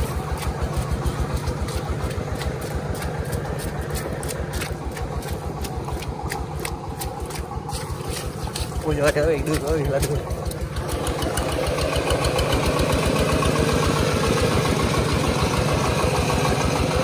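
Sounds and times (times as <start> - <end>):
stationary engine running: 0.0 - 17.0.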